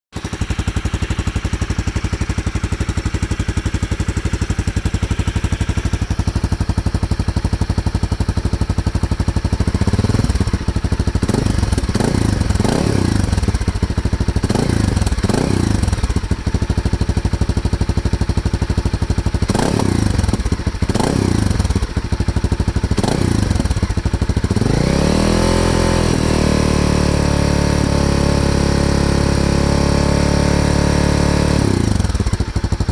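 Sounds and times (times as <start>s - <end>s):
motorcycle engine revving: 0.2s - 32.9s.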